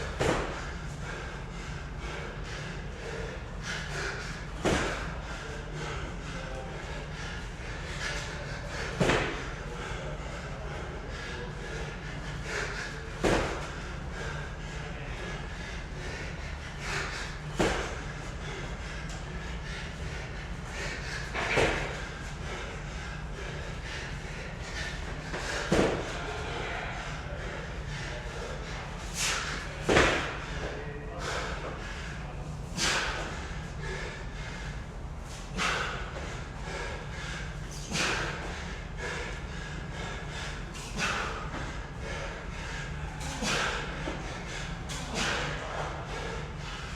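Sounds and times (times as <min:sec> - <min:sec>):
person breathing hard: 0:00.0 - 0:46.9.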